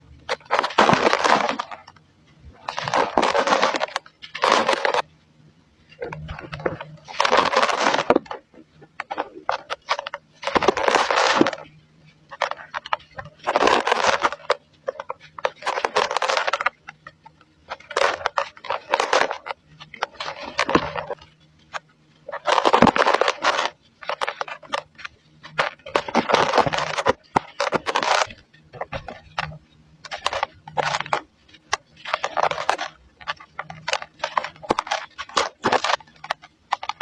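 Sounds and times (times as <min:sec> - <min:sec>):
dry cement crunching: 0:00.2 - 0:05.1, 0:06.0 - 0:37.0.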